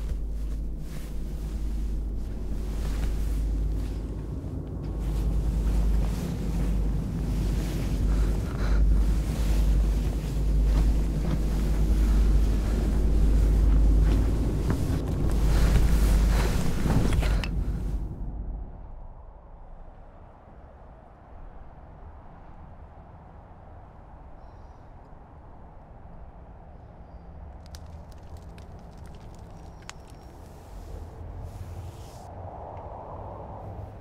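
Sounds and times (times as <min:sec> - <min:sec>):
deep rumbling ambient drone: 0:00.0 - 0:34.0.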